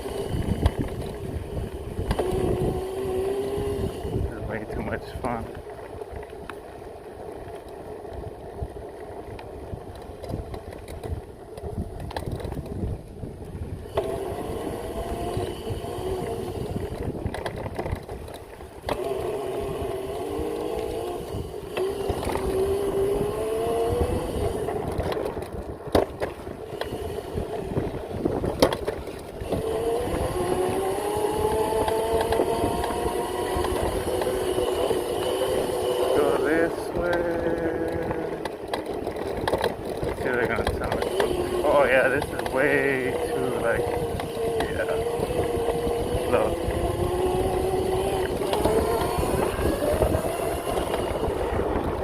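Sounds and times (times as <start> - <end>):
electric motor whining: 0.0 - 52.0.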